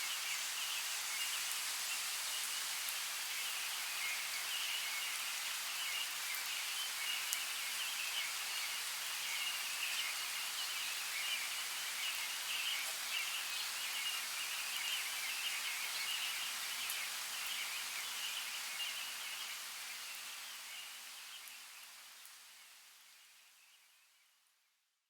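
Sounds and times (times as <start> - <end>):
light rain hiss: 0.0 - 24.6.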